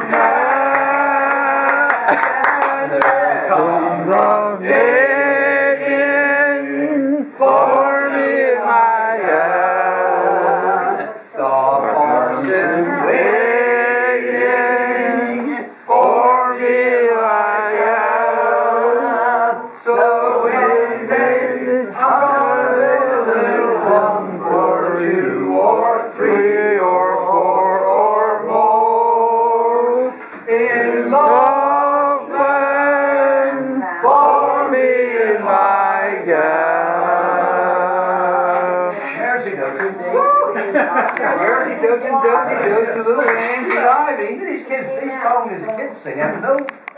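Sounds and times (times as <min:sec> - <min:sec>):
men singing together: 0:00.0 - 0:39.8.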